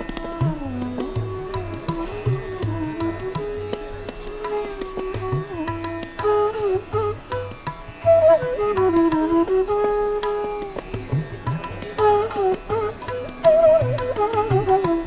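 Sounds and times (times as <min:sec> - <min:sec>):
string instrument melody: 0:00.0 - 0:15.0
tabla beat: 0:00.0 - 0:15.0.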